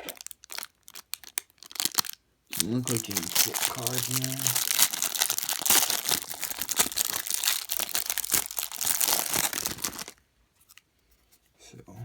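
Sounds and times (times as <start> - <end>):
plastic wrapping crinkling and tearing: 0.0 - 10.8.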